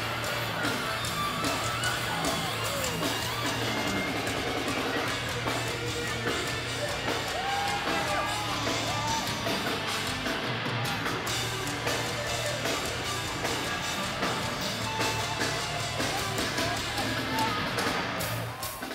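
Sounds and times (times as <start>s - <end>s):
heavy metal band playing: 0.0s - 18.9s.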